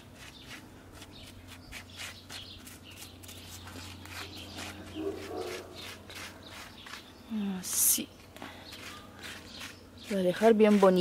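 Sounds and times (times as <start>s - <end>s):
hand scratching through pine needles: 0.0s - 11.0s.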